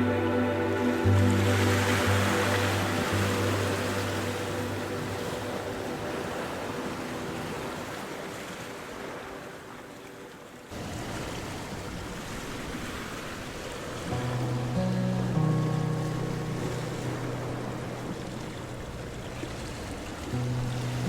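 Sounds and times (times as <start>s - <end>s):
ocean surf rushing: 0.0s - 21.0s.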